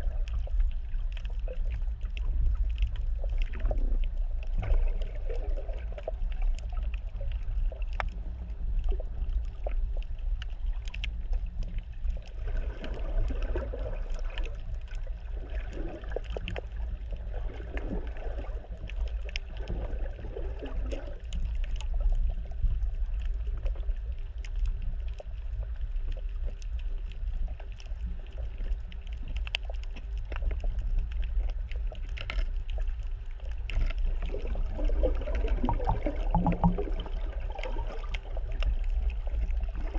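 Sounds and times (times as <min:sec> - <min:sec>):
small clicks and crackles: 0:00.0 - 0:39.9
underwater rumble of moving water: 0:00.0 - 0:39.9.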